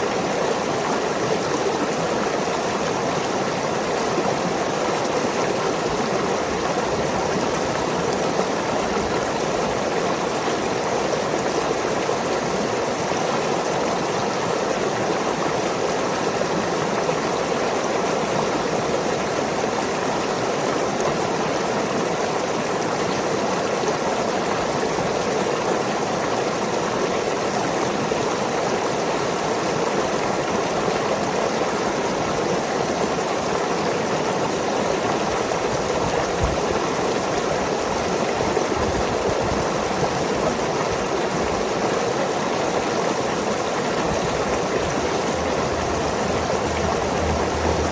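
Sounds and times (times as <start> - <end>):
small waterfall rushing: 0.0 - 47.9.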